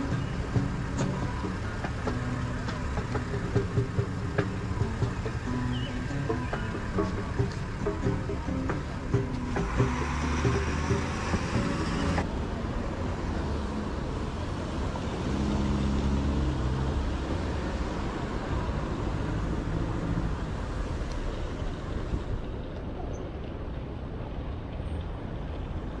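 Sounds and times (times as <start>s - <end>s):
passing cars rushing: 0.0s - 22.9s
vehicle engine hum: 0.0s - 26.0s.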